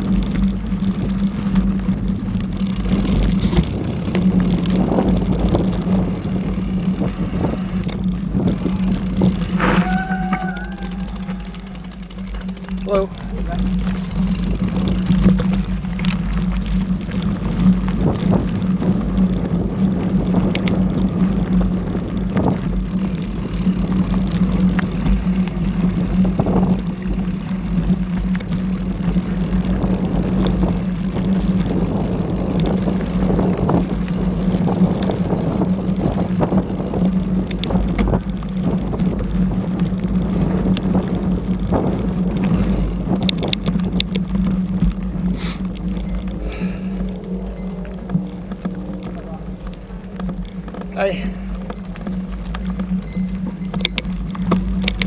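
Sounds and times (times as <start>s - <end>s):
bike rattles and knocks: 0.0s - 46.4s, 47.8s - 55.0s
bike rumbling on dirt: 0.0s - 55.0s
wind on microphone: 0.0s - 55.0s.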